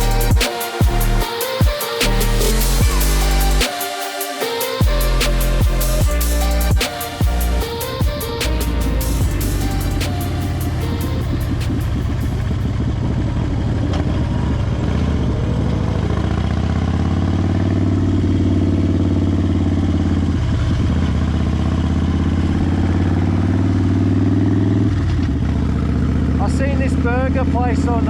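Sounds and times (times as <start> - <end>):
motorcycle engine accelerating: 4.8 - 28.0.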